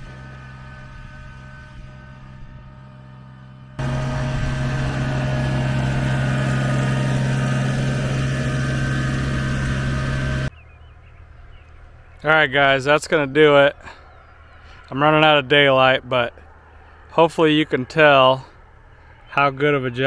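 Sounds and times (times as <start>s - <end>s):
tractor diesel engine running: 0.0s - 19.1s.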